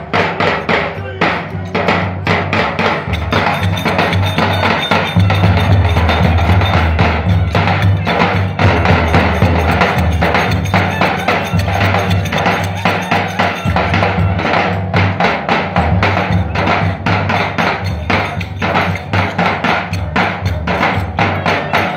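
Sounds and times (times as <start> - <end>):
fast drum strikes: 0.0 - 21.9
sharp clacking percussion: 0.0 - 21.9.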